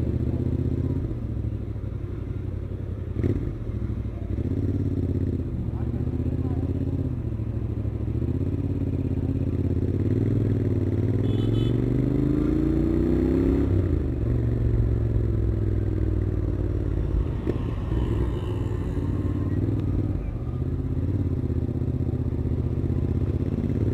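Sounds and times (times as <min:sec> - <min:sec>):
motorcycle engine revving: 0:03.1 - 0:23.9.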